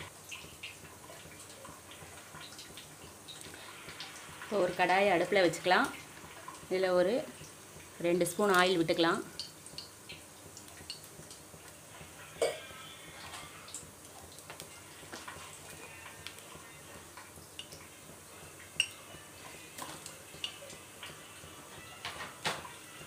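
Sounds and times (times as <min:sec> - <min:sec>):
oil ticking in a pan: 0:00.0 - 0:23.0.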